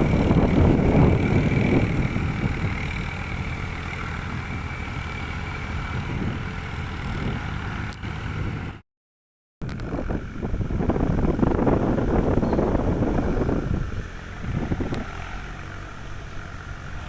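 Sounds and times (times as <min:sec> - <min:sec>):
tractor diesel engine running: 0:00.0 - 0:08.8, 0:09.7 - 0:17.0.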